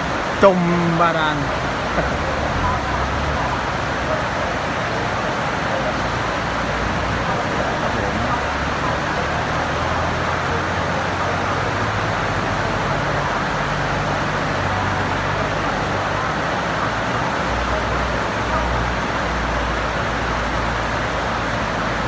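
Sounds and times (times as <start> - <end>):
heavy rain pouring: 0.0 - 22.0
vehicle engines humming: 0.0 - 22.0.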